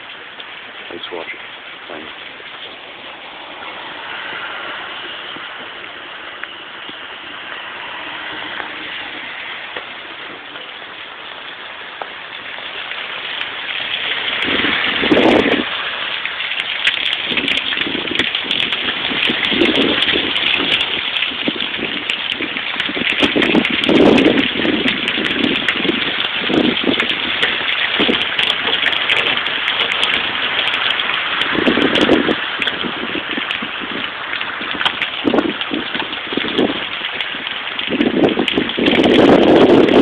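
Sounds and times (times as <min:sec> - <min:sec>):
heavy rain falling: 0:00.0 - 0:40.0
rainwater pouring off roof: 0:00.0 - 0:40.0.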